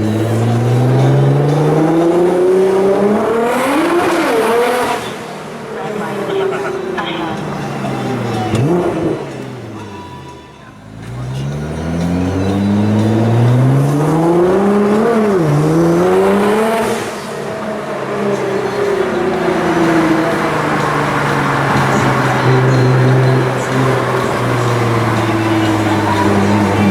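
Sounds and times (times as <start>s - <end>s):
car engine accelerating hard: 0.0s - 26.9s.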